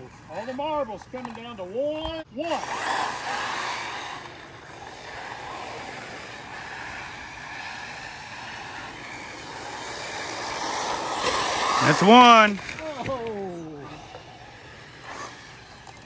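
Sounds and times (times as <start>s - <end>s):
electric rc cars racing: 0.0s - 16.0s.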